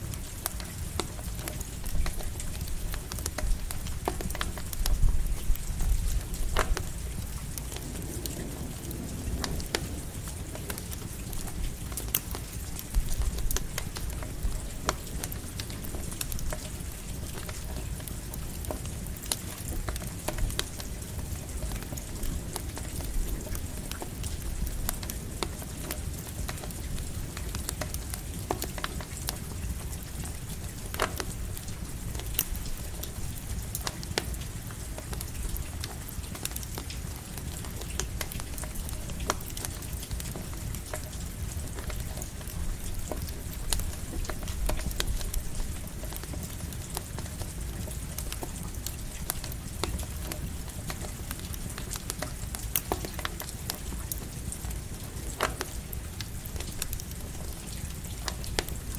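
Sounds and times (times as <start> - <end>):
campfire crackling and popping: 0.0 - 58.9
light rain pattering: 0.0 - 58.9.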